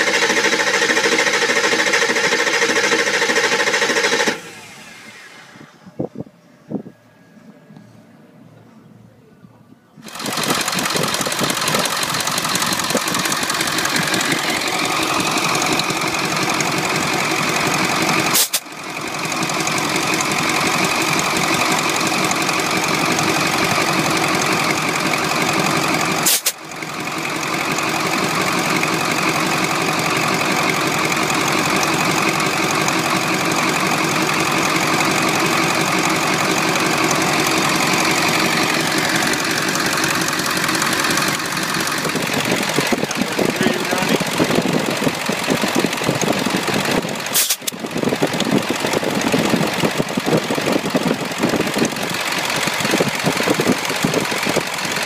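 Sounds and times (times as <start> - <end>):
diesel engine cranking: 0.0 - 6.0, 10.0 - 55.0.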